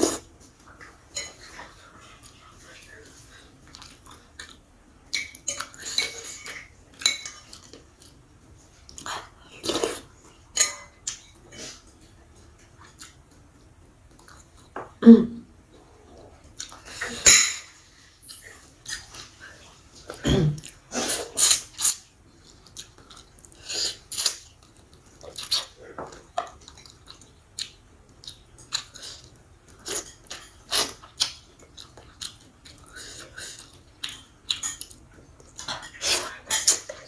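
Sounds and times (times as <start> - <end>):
person chewing food: 0.0 - 15.0, 15.7 - 17.2, 18.2 - 37.0.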